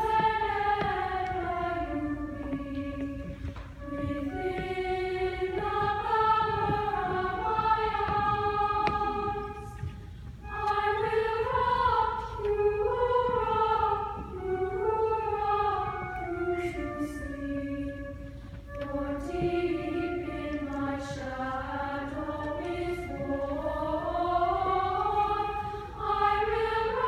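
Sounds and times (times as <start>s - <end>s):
girls' choir singing: 0.0s - 18.2s, 18.8s - 27.0s.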